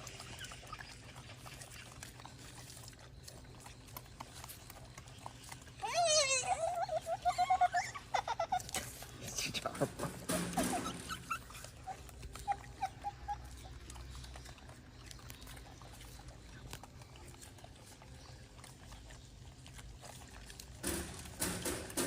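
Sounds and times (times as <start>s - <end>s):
monkey chewing and handling food: 0.0s - 22.0s.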